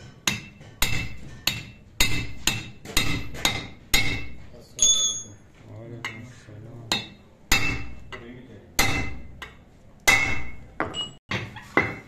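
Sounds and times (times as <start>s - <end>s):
hammer striking steel punch: 0.0s - 5.3s, 6.9s - 12.0s.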